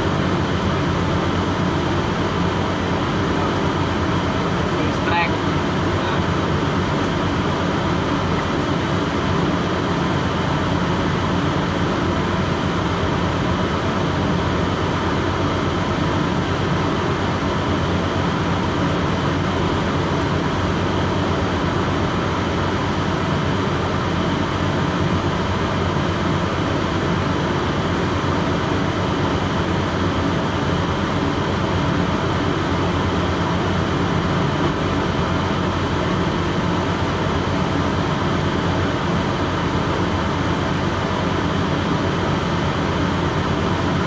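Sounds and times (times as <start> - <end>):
boat engine drone: 0.0 - 44.0.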